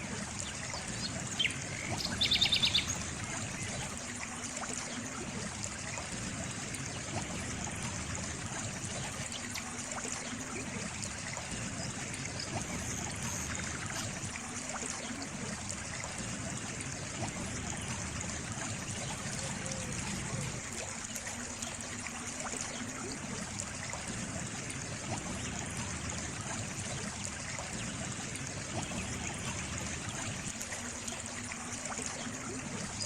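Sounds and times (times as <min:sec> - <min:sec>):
water trickling in a stream: 0:00.0 - 0:33.0.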